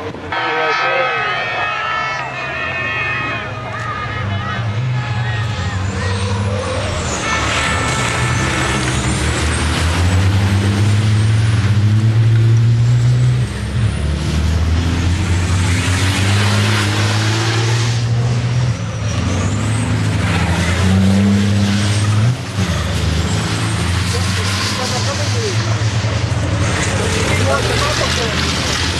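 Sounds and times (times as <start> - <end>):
truck engines droning: 0.0 - 28.9.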